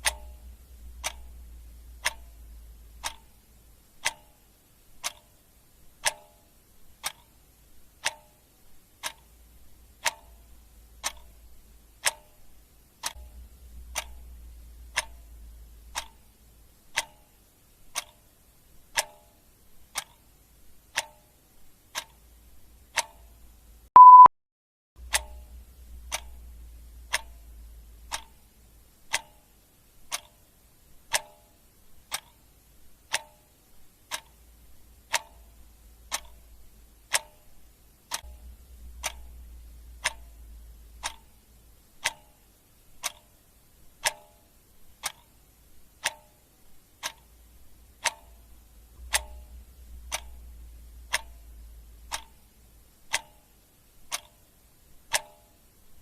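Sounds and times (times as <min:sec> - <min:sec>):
clock ticking: 0:00.0 - 0:24.3, 0:25.0 - 0:56.0
faint low hum: 0:00.0 - 0:24.3, 0:25.0 - 0:56.0.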